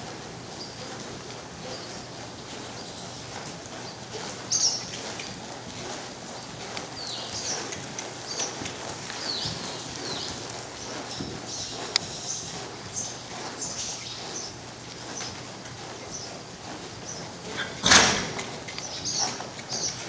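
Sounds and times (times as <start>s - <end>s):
small birds chirping: 0.4s - 17.8s, 18.4s - 20.0s.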